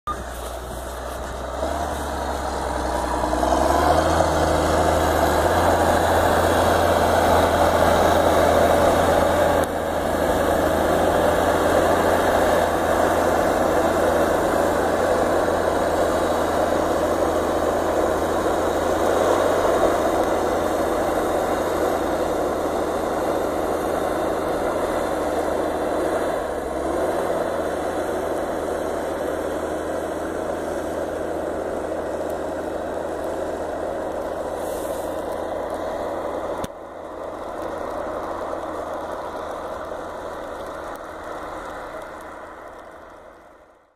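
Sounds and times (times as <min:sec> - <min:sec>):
diesel engine running under load: 0:00.1 - 0:43.9.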